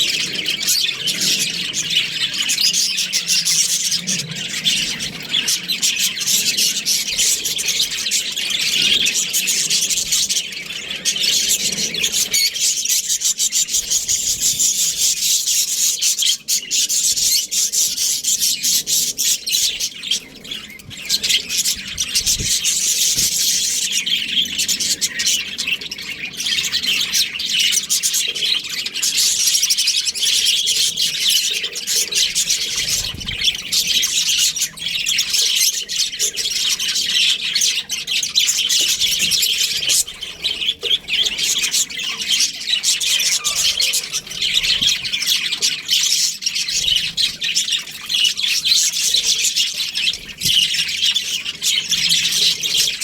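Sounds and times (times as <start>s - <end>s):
budgerigars chirping and chattering: 0.0s - 53.0s.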